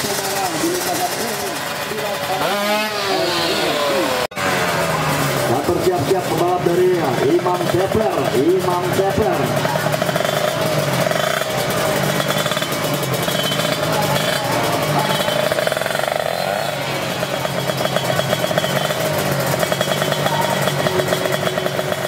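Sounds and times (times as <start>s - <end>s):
two-stroke engines revving: 0.0s - 22.0s.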